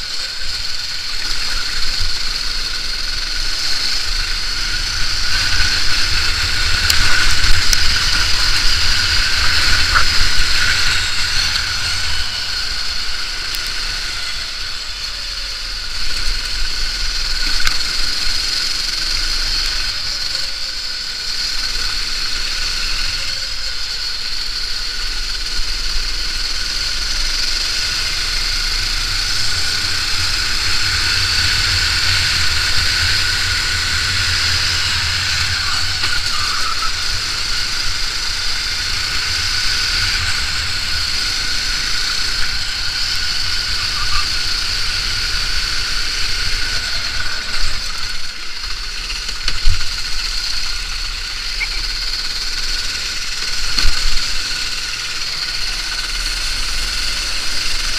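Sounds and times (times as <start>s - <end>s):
steady low rumble: 0.0s - 23.2s, 23.8s - 57.9s
go-kart engine racing: 0.0s - 57.9s.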